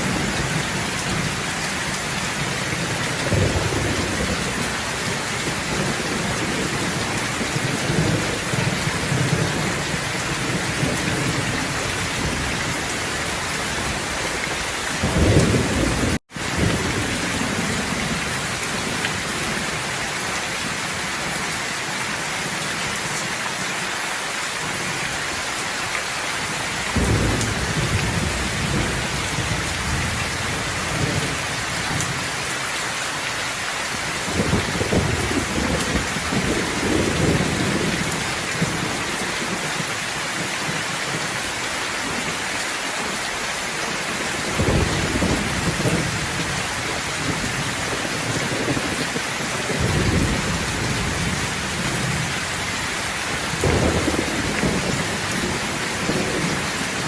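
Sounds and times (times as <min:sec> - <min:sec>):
thunder rumbling: 0:00.0 - 0:19.8, 0:26.9 - 0:32.5, 0:33.9 - 0:41.4, 0:44.0 - 0:57.0
heavy rain: 0:00.0 - 0:57.0.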